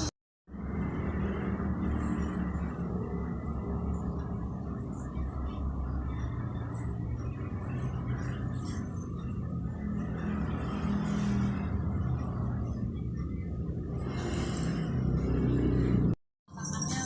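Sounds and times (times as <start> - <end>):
steady low rumble: 0.5 - 16.2.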